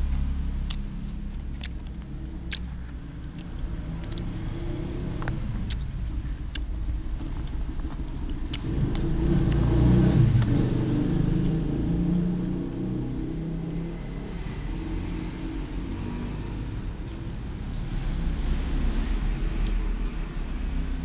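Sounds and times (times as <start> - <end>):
motor vehicle engine running: 0.0 - 21.0.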